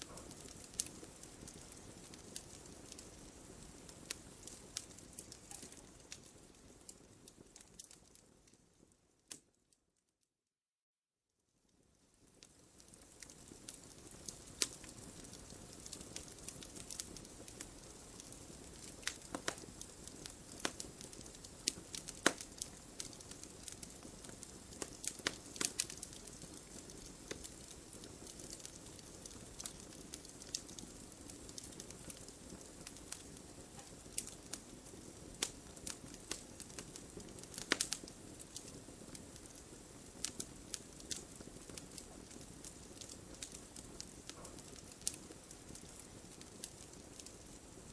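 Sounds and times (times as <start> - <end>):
logs crackling and popping: 0.0 - 9.5, 12.2 - 47.9
soft steady fire hiss: 0.0 - 10.2, 11.3 - 47.9.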